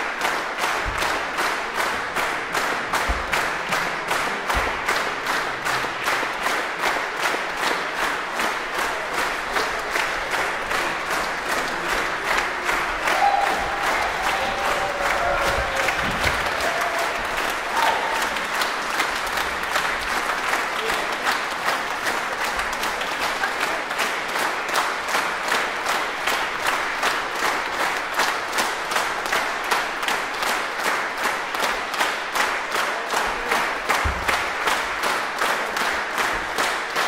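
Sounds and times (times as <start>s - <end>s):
audience applauding: 0.0s - 37.0s
rhythmic clapping in unison: 0.0s - 37.0s.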